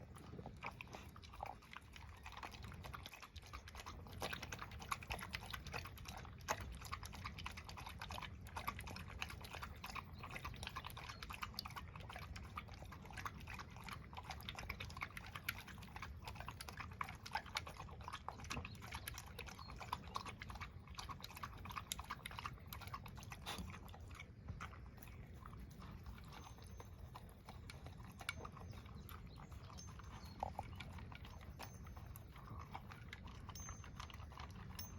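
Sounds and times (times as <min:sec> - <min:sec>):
dog chewing: 0:00.0 - 0:34.9.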